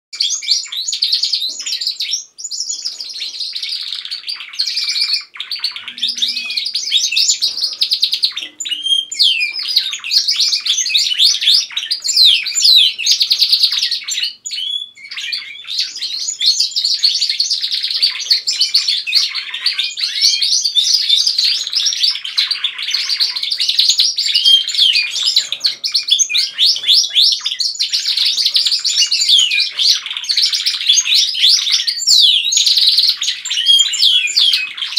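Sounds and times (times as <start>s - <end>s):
canaries singing: 0.2s - 34.9s.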